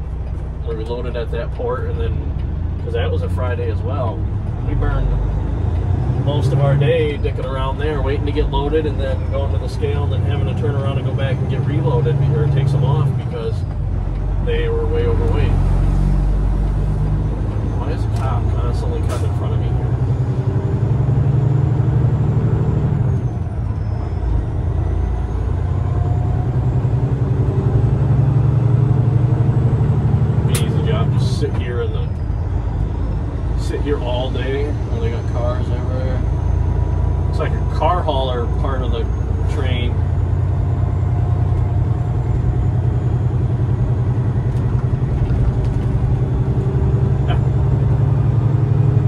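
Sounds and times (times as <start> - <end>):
road noise: 0.0 - 49.0
truck diesel engine drone: 0.0 - 49.0.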